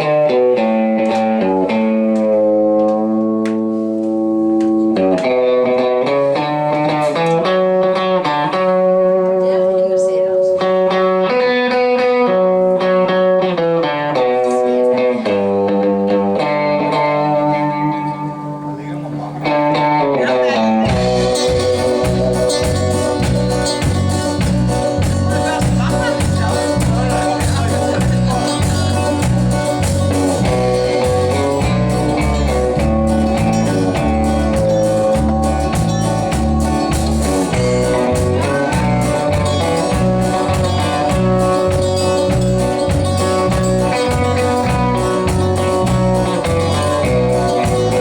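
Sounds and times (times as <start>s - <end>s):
drums and bass steady beat: 0.0s - 13.5s, 20.8s - 48.0s
country band playing live: 0.0s - 48.0s
guitar chords: 0.0s - 48.0s.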